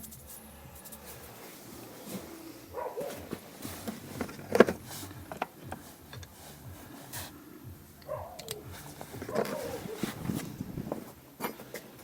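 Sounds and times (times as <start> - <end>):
hand tools clicking and knocking: 2.1 - 12.0.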